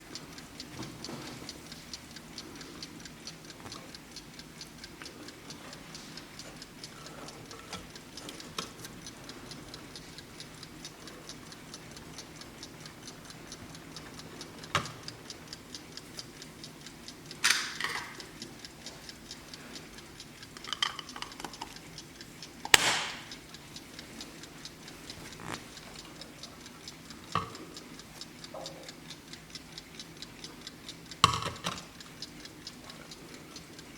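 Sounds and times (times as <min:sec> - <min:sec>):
alarm clock ticking: 0:00.0 - 0:33.9.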